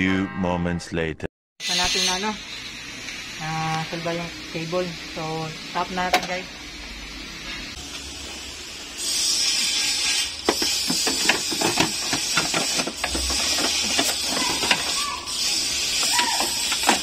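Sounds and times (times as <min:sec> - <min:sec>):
steady high hiss: 0:01.6 - 0:17.0.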